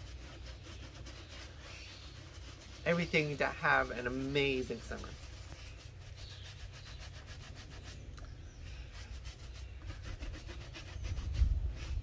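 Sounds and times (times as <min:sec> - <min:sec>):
scrubbing wet sneaker mesh: 0:00.0 - 0:12.0.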